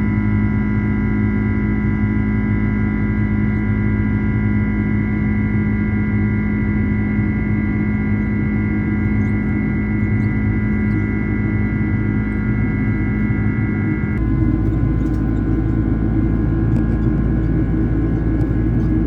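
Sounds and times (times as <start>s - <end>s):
airliner cabin drone: 0.0s - 19.0s
steady humming tones: 0.0s - 19.0s.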